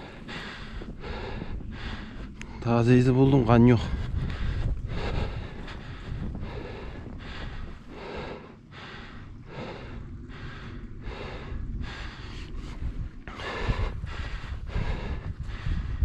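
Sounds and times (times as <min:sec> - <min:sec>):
man breathing hard: 0:00.0 - 0:02.7, 0:03.8 - 0:16.0.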